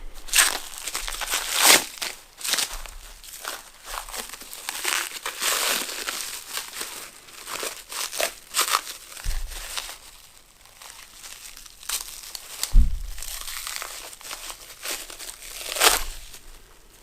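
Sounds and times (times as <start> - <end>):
packaging crinkling and rustling: 0.2 - 17.0.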